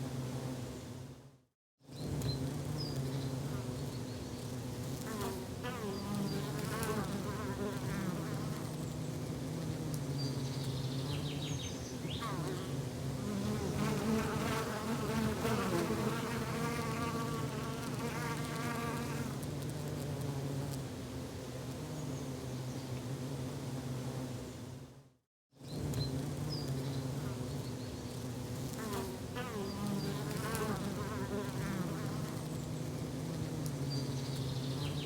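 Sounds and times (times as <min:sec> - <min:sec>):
insect buzz: 0:01.9 - 0:24.8, 0:25.6 - 0:35.0.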